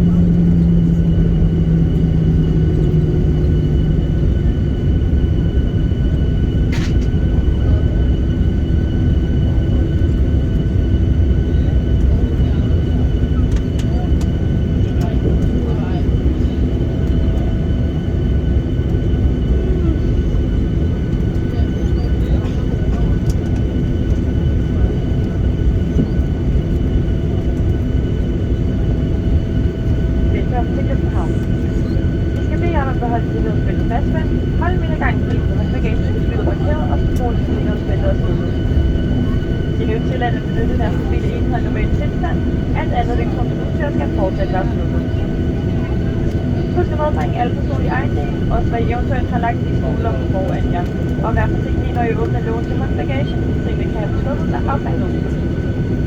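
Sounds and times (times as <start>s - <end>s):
engines and wheels rumbling: 0.0s - 56.0s
low hum: 0.0s - 56.0s.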